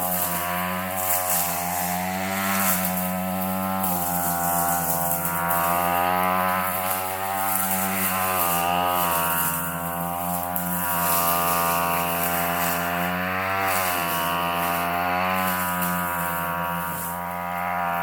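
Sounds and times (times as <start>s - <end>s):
weed eater engine cutting brush: 0.0s - 18.0s.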